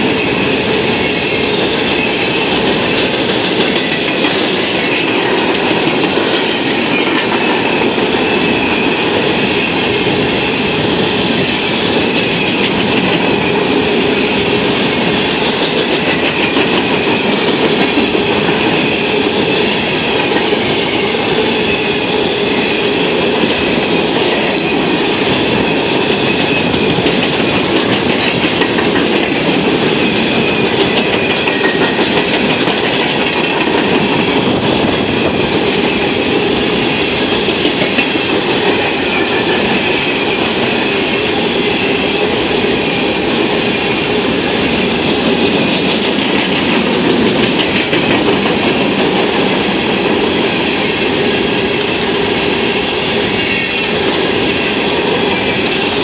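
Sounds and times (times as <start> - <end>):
train trucks clattering: 0.0 - 56.0
train wheels rushing on rails: 0.0 - 56.0.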